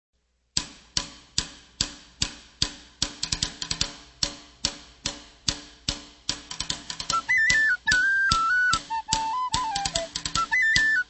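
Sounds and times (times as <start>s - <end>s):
clicky percussion beat: 0.6s - 11.0s.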